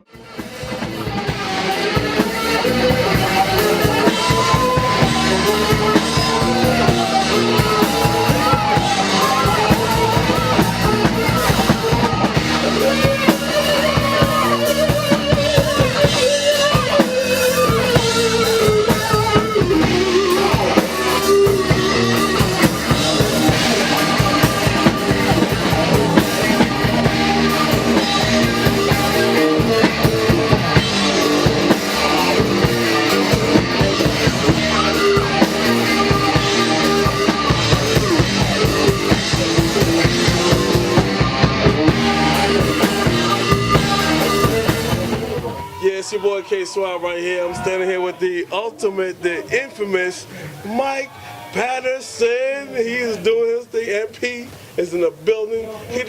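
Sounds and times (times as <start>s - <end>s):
drum kit beating: 0.0s - 46.6s
guitar playing: 0.1s - 45.8s.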